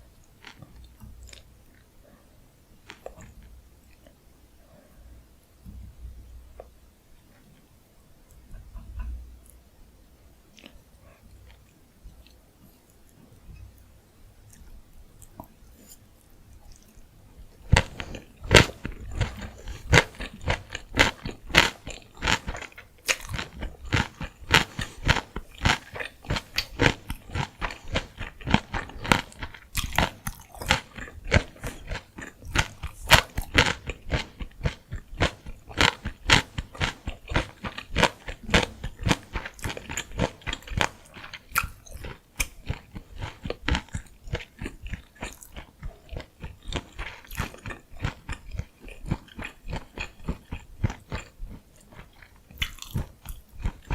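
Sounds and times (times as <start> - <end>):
crunchy wet chewing: 10.5 - 53.9.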